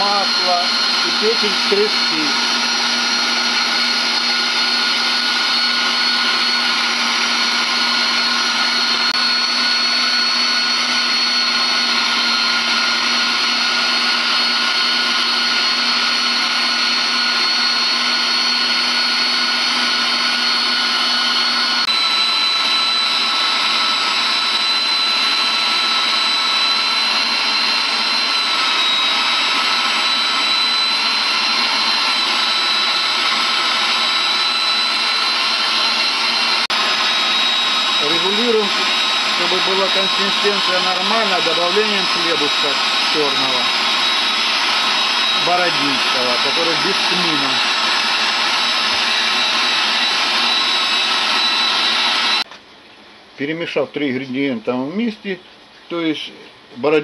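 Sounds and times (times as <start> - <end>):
meat grinder motor whine: 0.0 - 52.5.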